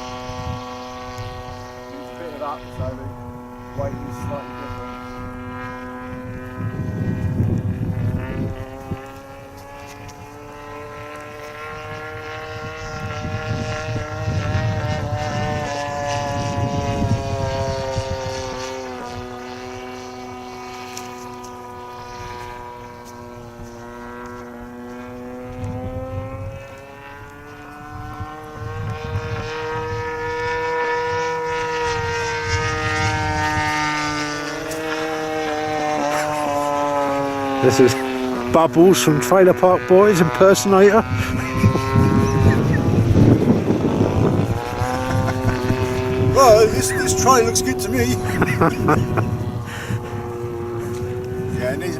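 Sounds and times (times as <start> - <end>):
model plane motor droning: 0.0 - 51.9
wind buffeting microphone: 0.0 - 51.9.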